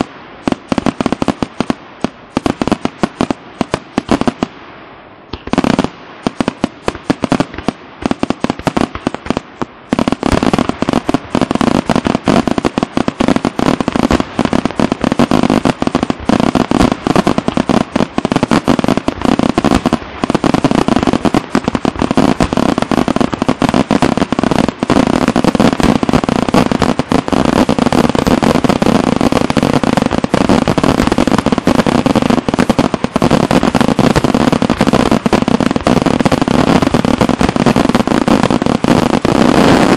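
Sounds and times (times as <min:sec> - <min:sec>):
fireworks bursting: 0:00.0 - 0:39.9
fireworks crackling: 0:00.0 - 0:39.9.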